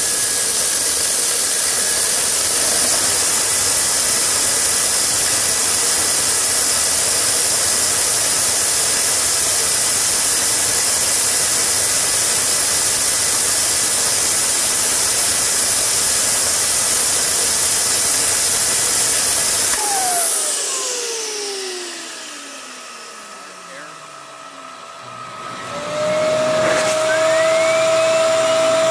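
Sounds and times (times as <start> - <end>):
jet engine rushing whine: 0.0 - 28.9
turbine whistling spinning down: 0.0 - 28.9.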